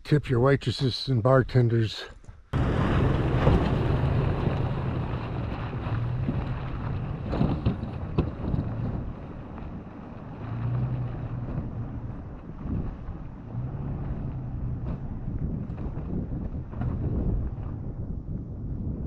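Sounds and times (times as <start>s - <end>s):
wind noise on microphone: 2.5s - 19.0s
low engine drone: 2.6s - 19.0s.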